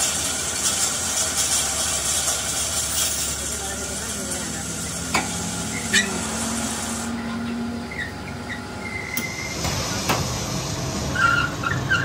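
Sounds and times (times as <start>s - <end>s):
workshop noise: 0.0s - 12.0s.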